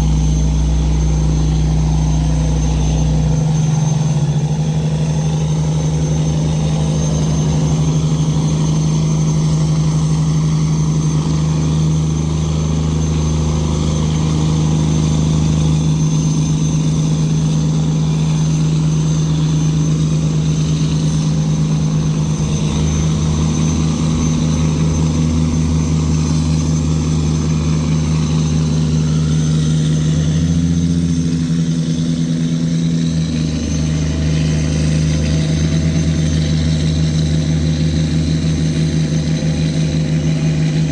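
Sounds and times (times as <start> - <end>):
tugboat diesel engine running: 0.0 - 40.9.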